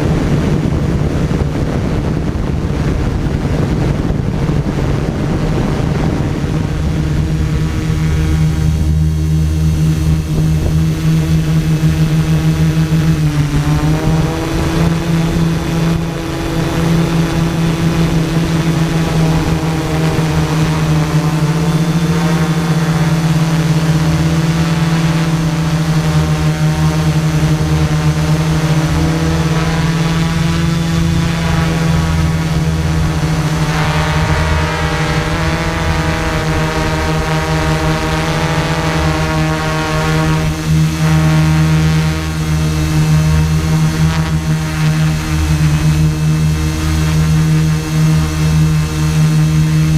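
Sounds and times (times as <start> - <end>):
quadcopter motors droning: 0.0 - 49.9.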